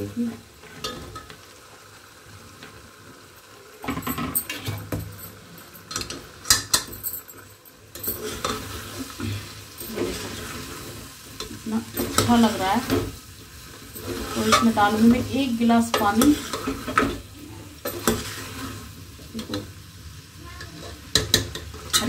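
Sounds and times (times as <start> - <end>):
faint sizzle: 0.0 - 22.0.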